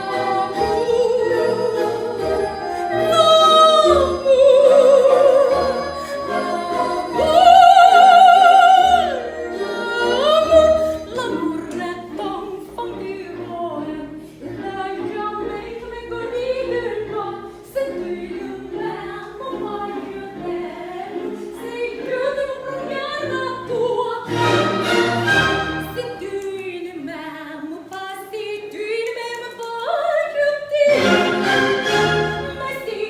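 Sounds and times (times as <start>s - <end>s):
soprano singing operatically: 0.0s - 33.0s.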